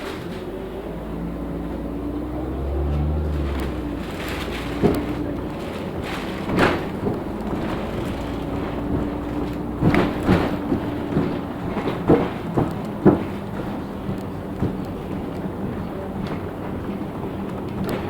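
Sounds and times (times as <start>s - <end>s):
bus body knocks and rattles: 0.0s - 0.9s, 2.6s - 18.0s
bus drivetrain hum and whine: 0.0s - 18.0s.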